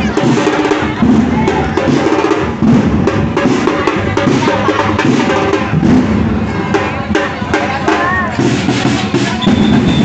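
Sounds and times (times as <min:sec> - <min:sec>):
deep bass drum beats: 0:00.0 - 0:10.0
drum group playing: 0:00.0 - 0:10.0.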